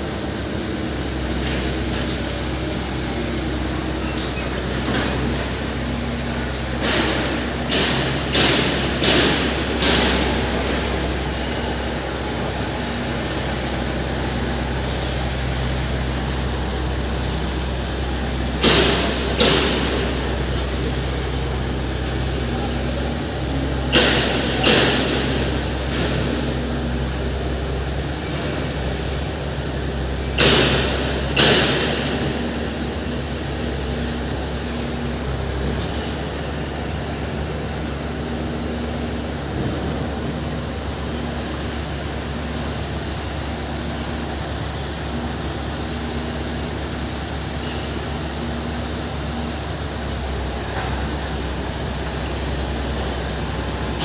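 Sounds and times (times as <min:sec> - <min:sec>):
heavy machinery drone: 0:00.0 - 0:54.0.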